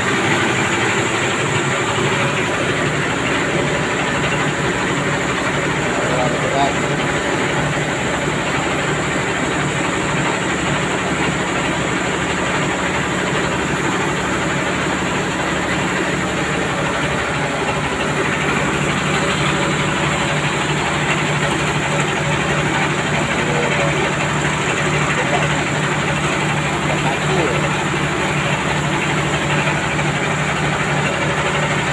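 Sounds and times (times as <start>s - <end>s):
rice milling machine running: 0.0s - 31.9s.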